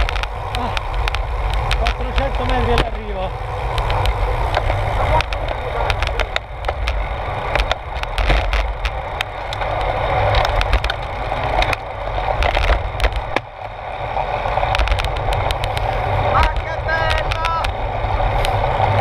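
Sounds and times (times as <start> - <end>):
bicycle clicks and rattles: 0.0 - 19.0
wind and road rumble: 0.0 - 19.0.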